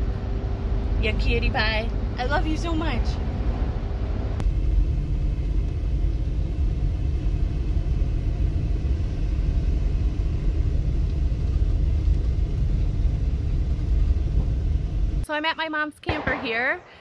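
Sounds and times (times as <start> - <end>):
van engine and tyres rumbling: 0.0 - 15.2.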